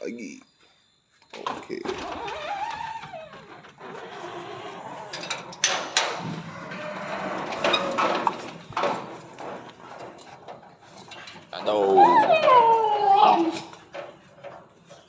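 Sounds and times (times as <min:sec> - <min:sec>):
sharp knocks and rattles: 0:01.2 - 0:15.0.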